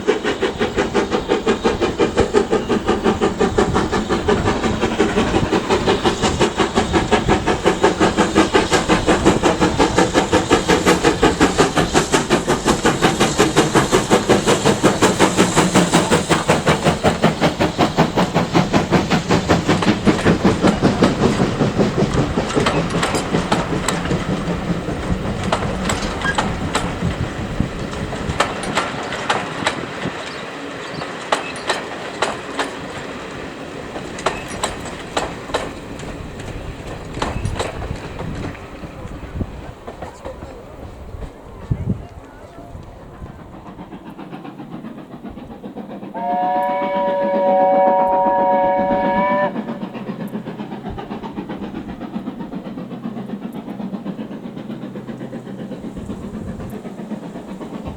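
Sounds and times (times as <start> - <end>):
wheels clicking over rail joints: 0.0 - 46.8, 48.7 - 57.9
steam train exhaust beats: 0.0 - 57.9.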